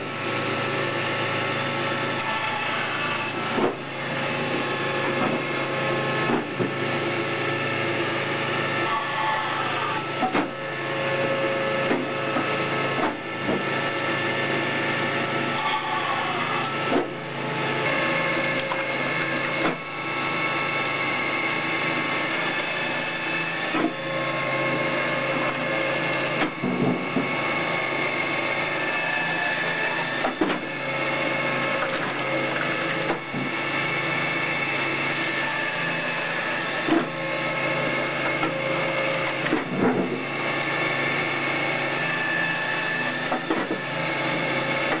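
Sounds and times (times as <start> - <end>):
machine motor whine: 0.0 - 45.0.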